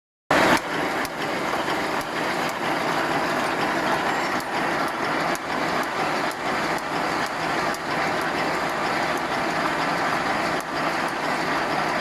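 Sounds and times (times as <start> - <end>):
sharp machine clicks: 0.3 - 12.0
wire mesh machine running: 0.3 - 12.0.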